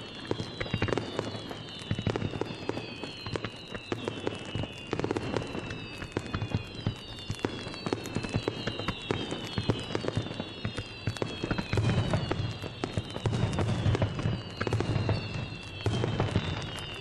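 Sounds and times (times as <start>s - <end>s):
firework shells booming: 0.0s - 17.0s
firework whistles: 0.0s - 17.0s
fireworks crackling: 0.0s - 17.0s.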